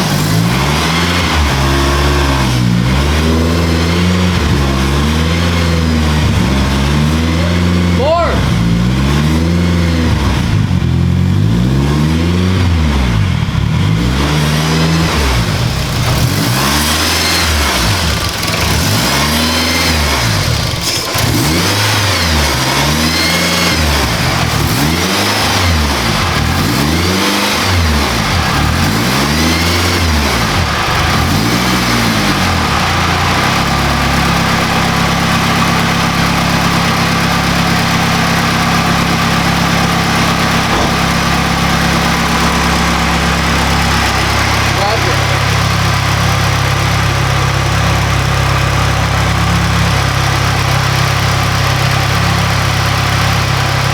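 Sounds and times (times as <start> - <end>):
car engine revving and idling: 0.0 - 53.9.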